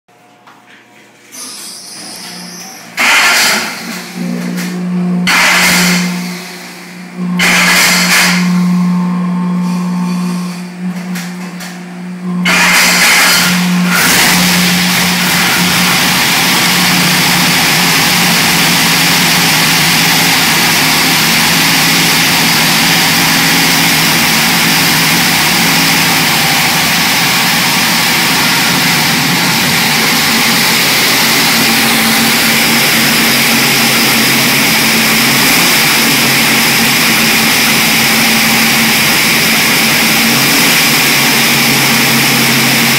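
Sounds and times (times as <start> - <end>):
steady hum: 0.1 - 42.9
engine starting and running: 1.3 - 42.9.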